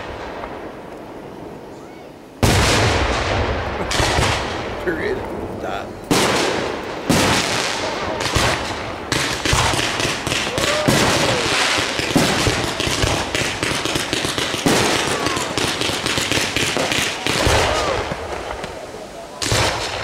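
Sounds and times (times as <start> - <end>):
firework crackling: 0.0 - 20.0
firework shells bursting: 2.4 - 20.0.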